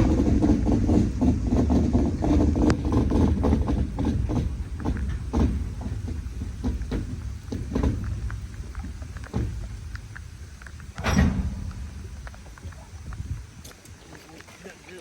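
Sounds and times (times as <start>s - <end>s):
freight train rumbling: 0.0s - 13.9s
train thumps and clanks: 0.0s - 13.9s.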